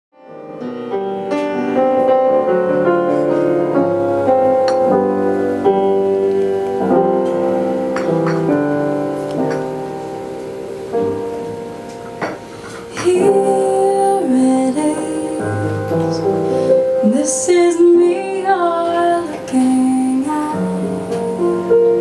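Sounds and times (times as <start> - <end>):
slow piano chords: 0.2 - 22.0.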